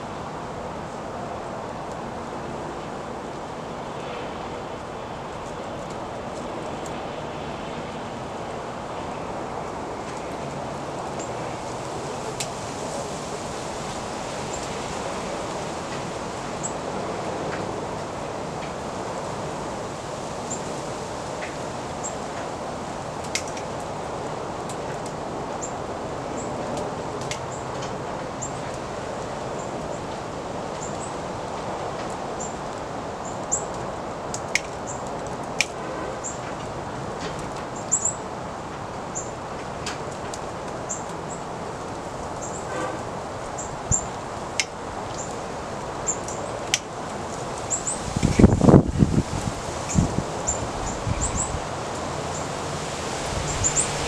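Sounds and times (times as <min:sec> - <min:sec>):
wind rustling leaves: 0:00.0 - 0:54.0.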